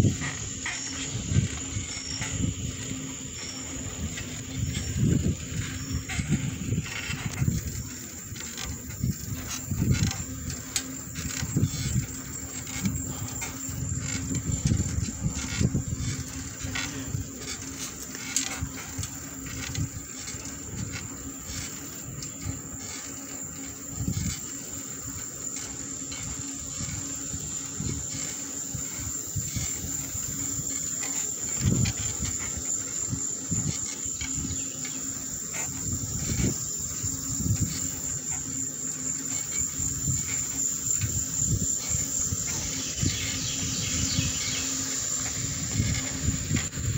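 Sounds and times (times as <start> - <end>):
bicycle tyres rumbling on asphalt: 0.0 - 46.9
insect trill: 0.0 - 46.9
small clicks and rattles: 0.0 - 46.9
wind buffeting microphone: 0.0 - 46.9.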